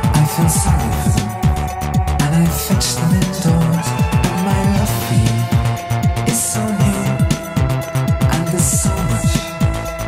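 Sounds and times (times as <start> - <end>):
deep bass hits dropping in pitch: 0.0 - 10.0
fast drum beat: 0.0 - 10.0
sustained synth tones: 0.0 - 10.0.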